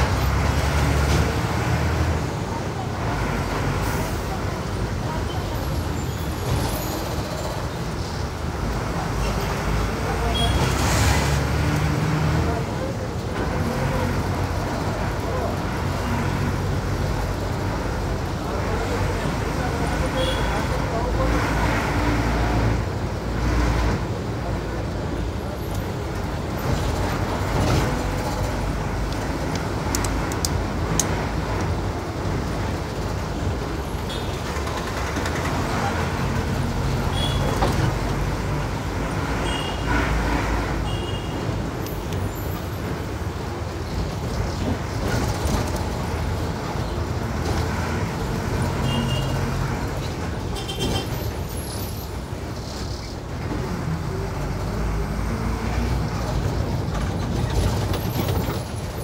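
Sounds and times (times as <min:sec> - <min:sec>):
bus engine running: 0:00.0 - 0:59.0
road and tyre noise: 0:00.0 - 0:59.0.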